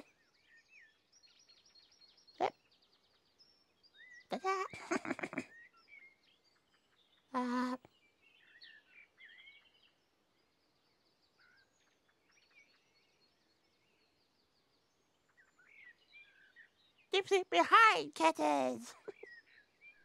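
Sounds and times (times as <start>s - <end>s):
faint birdsong chirps and trills: 0.0s - 20.0s.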